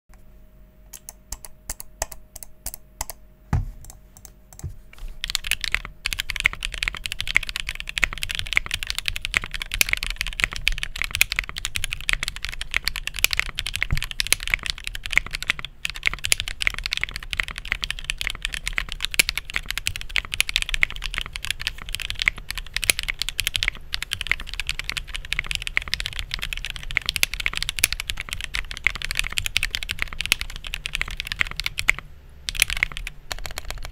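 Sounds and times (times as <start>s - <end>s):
mechanical keyboard typing: 1.0s - 3.2s, 3.8s - 33.9s.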